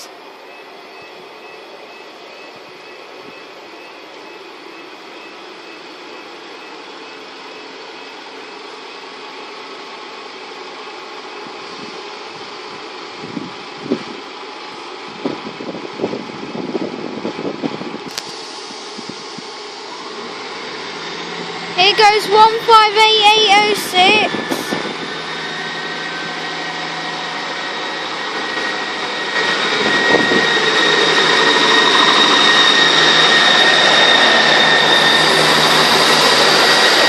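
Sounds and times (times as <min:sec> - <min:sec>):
train engine and rail noise: 0:00.0 - 0:37.0.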